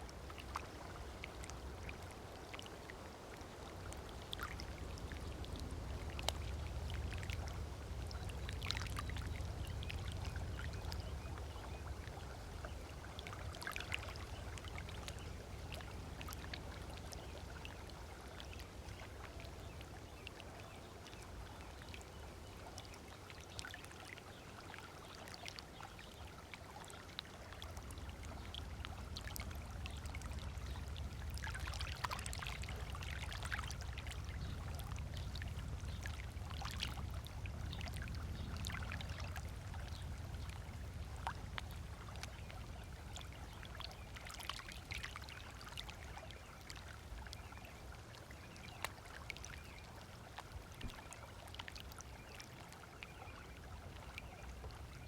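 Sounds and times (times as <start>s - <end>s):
small waves lapping on sand: 0.0s - 55.0s.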